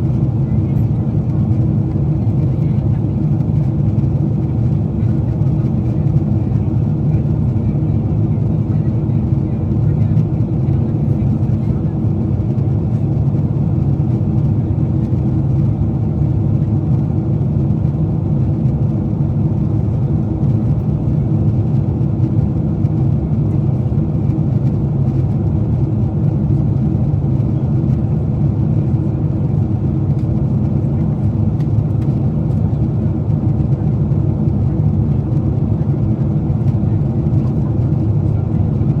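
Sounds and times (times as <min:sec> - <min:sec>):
airliner cabin drone: 0:00.0 - 0:39.0.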